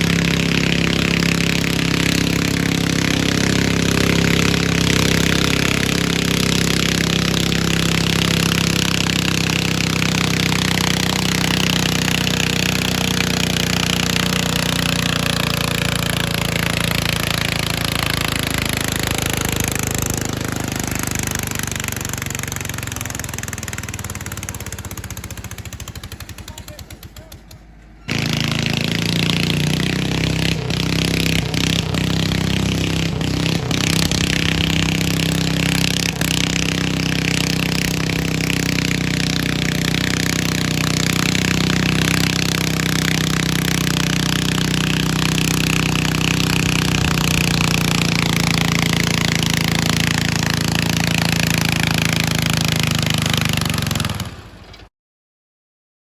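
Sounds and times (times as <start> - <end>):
garden tractor engine running hard: 0.0 - 54.9.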